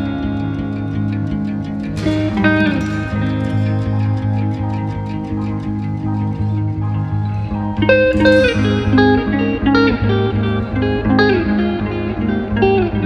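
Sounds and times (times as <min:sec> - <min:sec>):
plucked guitar melody: 0:00.0 - 0:13.0
sustained low tones: 0:00.0 - 0:13.0.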